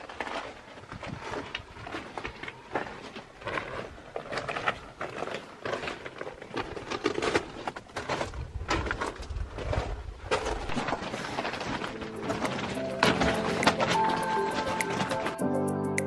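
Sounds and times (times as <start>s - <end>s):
footsteps crunching on rocks: 0.0s - 15.3s.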